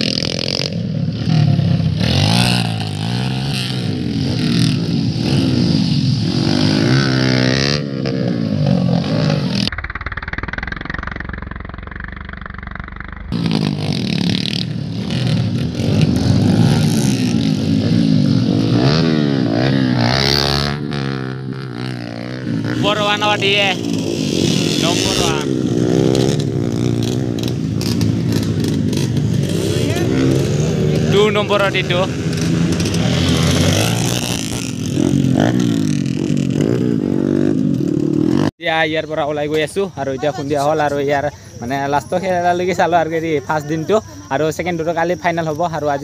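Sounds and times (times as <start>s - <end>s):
motocross bikes revving: 0.0s - 46.0s.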